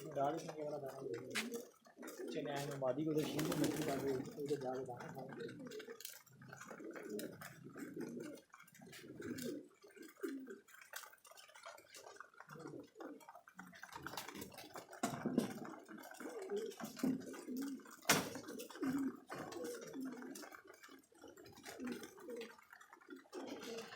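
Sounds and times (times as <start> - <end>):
pigeons cooing: 0.0 - 23.9.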